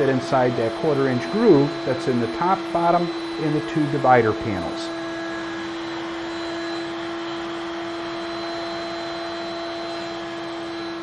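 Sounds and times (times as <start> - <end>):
router whining: 0.0 - 11.0.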